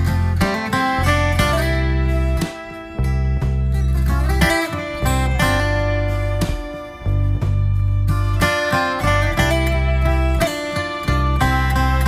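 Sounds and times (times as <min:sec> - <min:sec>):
low bass notes: 0:00.0 - 0:12.0
plucked guitar piece: 0:00.0 - 0:12.0.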